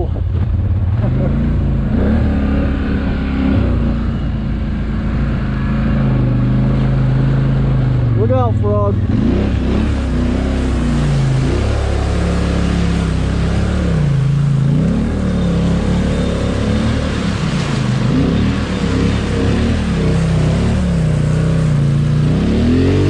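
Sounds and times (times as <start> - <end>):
atv engine revving: 0.0 - 23.0
water splashing and churning: 0.0 - 23.0.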